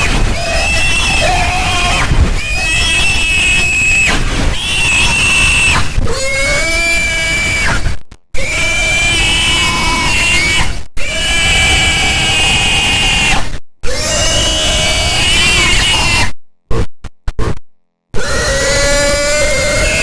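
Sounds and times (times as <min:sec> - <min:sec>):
pig squealing distorted: 0:00.0 - 0:16.4, 0:18.1 - 0:20.0.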